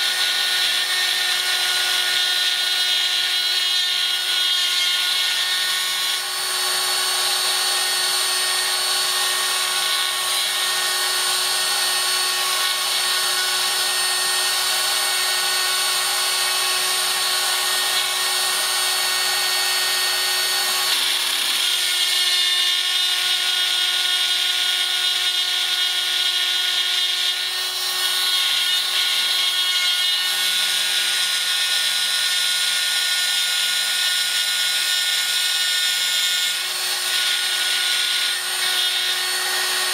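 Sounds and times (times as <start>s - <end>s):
cutter milling metal: 0.0s - 39.9s
drill whining: 0.0s - 39.9s.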